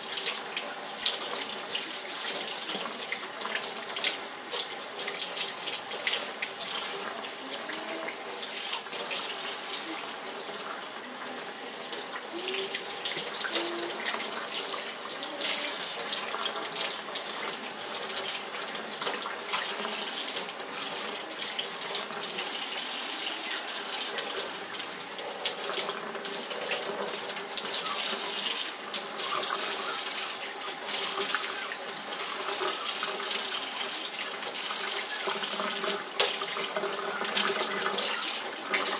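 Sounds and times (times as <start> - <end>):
faucet water splashing into sink: 0.0 - 38.9.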